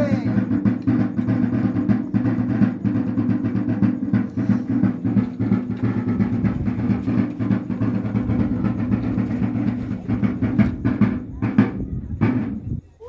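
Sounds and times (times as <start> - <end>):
drum beaten in rapid rhythm: 0.0 - 13.0.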